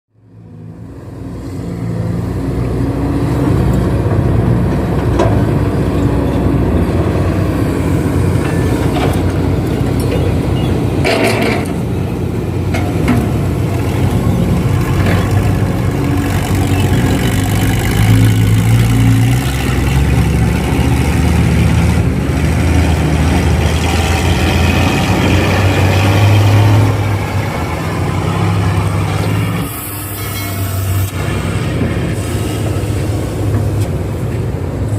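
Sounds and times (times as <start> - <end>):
heavy equipment engines running: 0.2 - 34.9.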